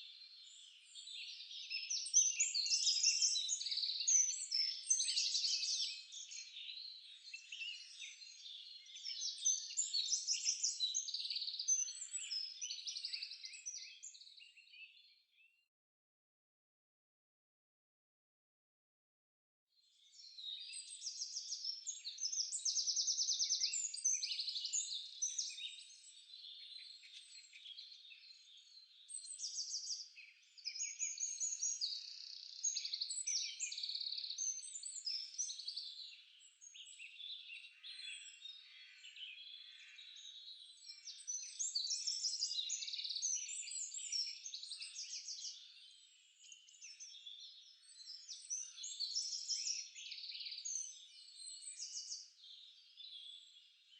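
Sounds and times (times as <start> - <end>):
songbirds chirping and trilling: 0.0 - 15.7, 19.8 - 53.9.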